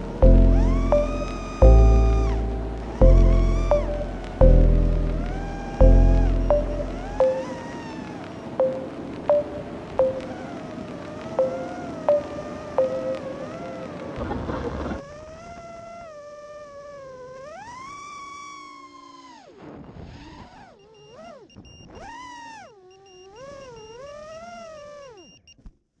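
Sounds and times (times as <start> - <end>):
quadcopter motors whining: 0.0 - 25.5.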